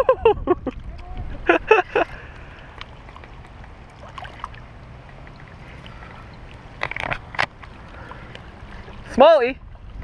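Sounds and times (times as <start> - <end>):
wind rumble: 0.0 - 10.0
lapping water: 0.7 - 9.2.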